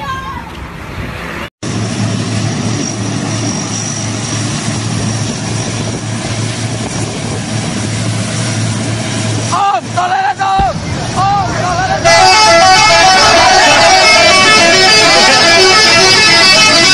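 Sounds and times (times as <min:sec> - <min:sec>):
large engine droning: 0:01.2 - 0:16.9.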